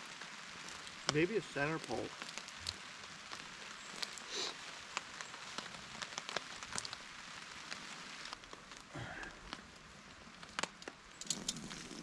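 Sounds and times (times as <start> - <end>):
rain on fabric shelter: 0.0 - 12.0
raindrops striking fabric: 0.0 - 12.0.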